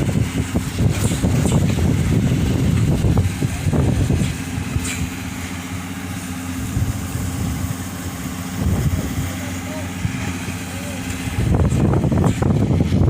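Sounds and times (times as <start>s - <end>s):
engine idling: 0.0s - 13.0s
wind buffeting microphone: 0.0s - 13.0s.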